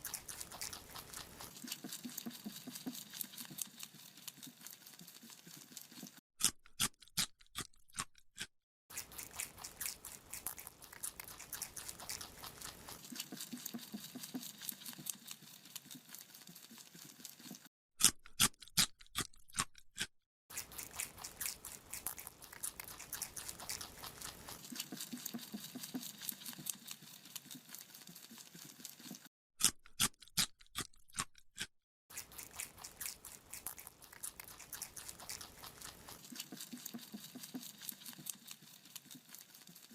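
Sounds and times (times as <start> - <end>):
rabbit chewing a carrot: 0.0 - 39.9.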